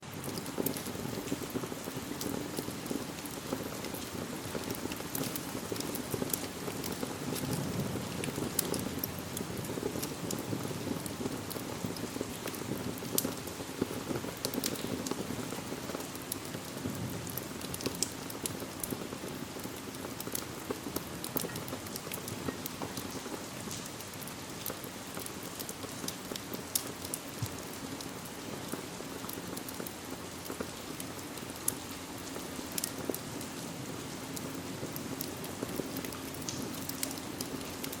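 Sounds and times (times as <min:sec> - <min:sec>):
steady rain falling: 0:00.0 - 0:38.0
sharp ticks and crackles: 0:00.1 - 0:33.2, 0:34.4 - 0:38.0.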